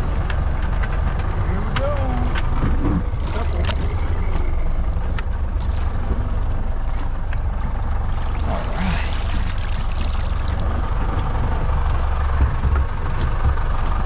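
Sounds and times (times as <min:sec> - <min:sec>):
boat rumbling on water: 0:00.0 - 0:14.0.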